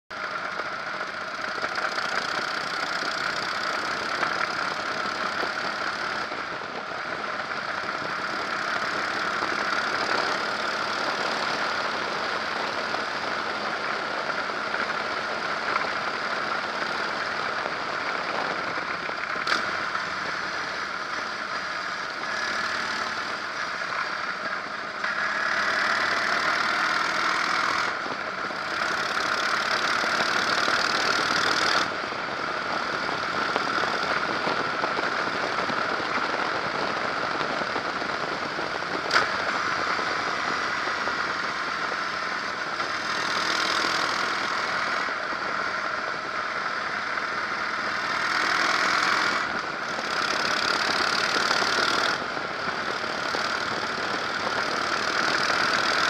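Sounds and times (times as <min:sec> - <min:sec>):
motorcycle engine running: 0:00.1 - 0:56.0
wind and road noise: 0:00.1 - 0:56.0.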